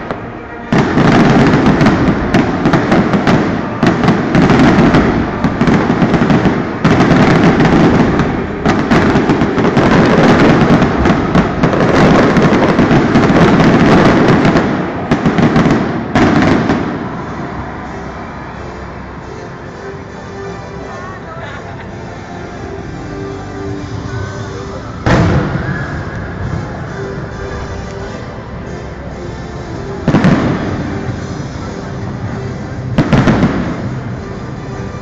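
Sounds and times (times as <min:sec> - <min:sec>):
fireworks bursting: 0:00.0 - 0:21.1, 0:23.6 - 0:35.0
fireworks crackling: 0:00.0 - 0:35.0.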